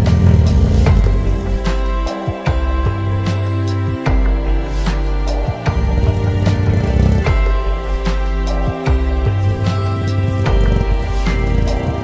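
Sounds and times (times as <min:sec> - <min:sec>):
sustained chords over bass: 0:00.0 - 0:12.0.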